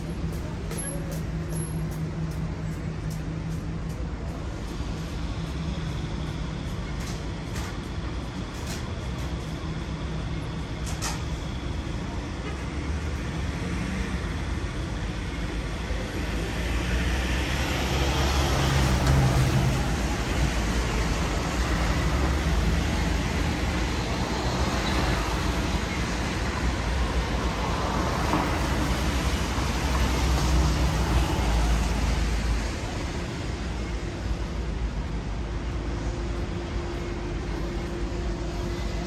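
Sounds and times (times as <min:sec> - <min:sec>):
street traffic noise: 0:00.0 - 0:39.0
vehicle engine hum: 0:00.0 - 0:39.0.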